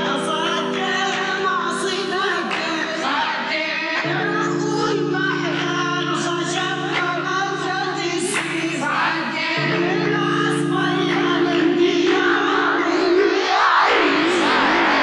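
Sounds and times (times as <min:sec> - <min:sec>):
wavering sung vocal: 0:00.0 - 0:15.0.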